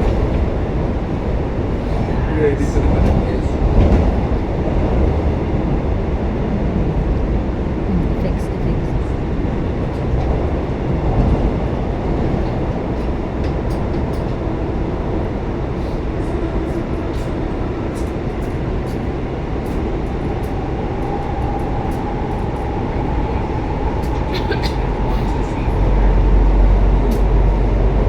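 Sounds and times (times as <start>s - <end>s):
train rumbling and rushing: 0.0s - 28.0s.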